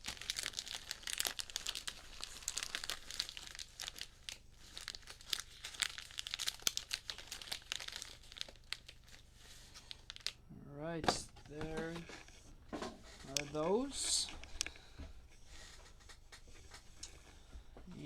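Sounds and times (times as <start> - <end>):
cellophane crinkling: 0.0 - 10.4, 11.1 - 17.4.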